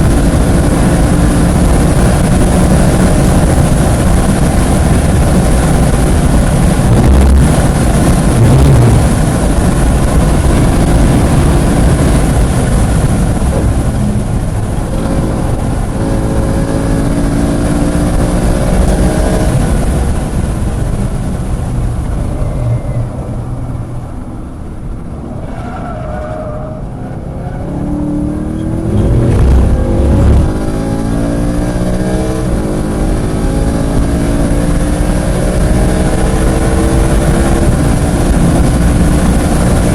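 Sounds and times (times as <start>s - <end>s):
car engine at full throttle: 0.0s - 39.9s
wind noise: 0.0s - 39.9s.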